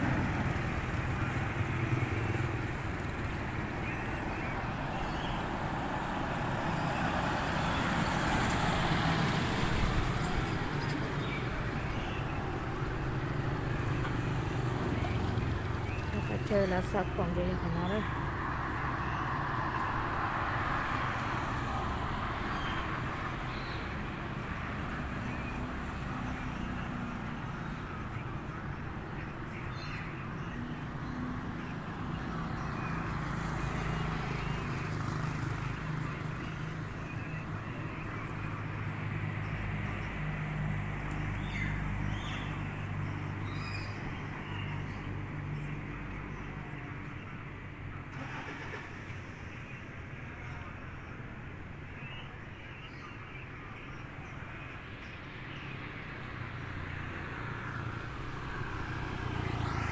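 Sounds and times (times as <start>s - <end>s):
vehicle engines humming: 0.0s - 59.9s.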